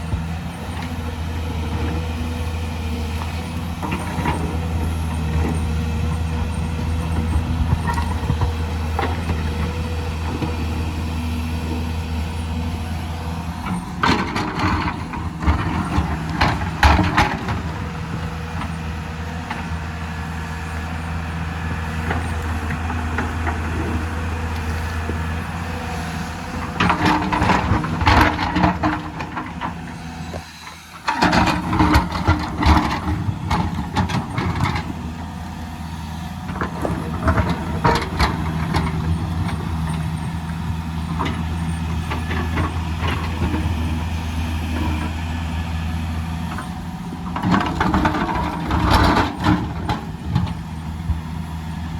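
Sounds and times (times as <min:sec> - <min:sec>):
diesel excavator engine running: 0:00.0 - 0:51.9.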